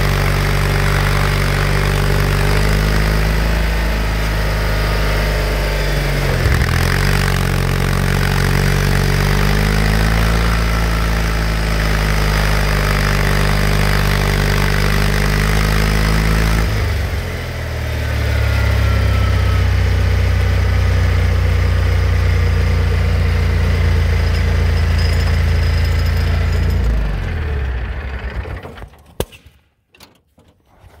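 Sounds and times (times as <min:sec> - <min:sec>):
garden tractor engine running: 0:00.0 - 0:29.1.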